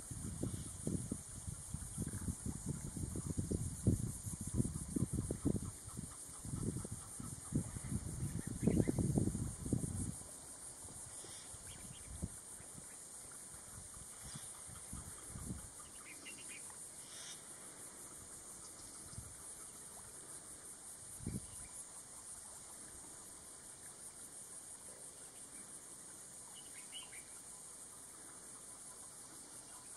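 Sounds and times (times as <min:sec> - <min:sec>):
insect chorus: 0:00.0 - 0:29.9.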